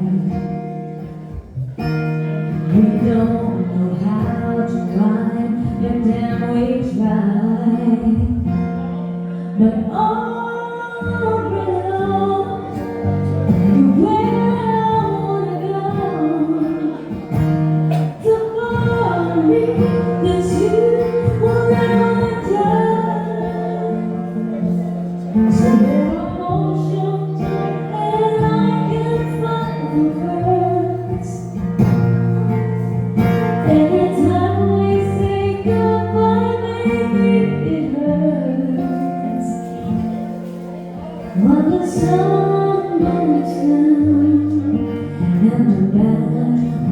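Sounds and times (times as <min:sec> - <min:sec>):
woman singing a ballad: 0:00.0 - 0:00.8, 0:02.6 - 0:08.6, 0:09.6 - 0:17.3, 0:17.9 - 0:24.4, 0:25.4 - 0:32.0, 0:33.5 - 0:40.2, 0:41.3 - 0:46.9
acoustic guitar chords: 0:00.0 - 0:46.9.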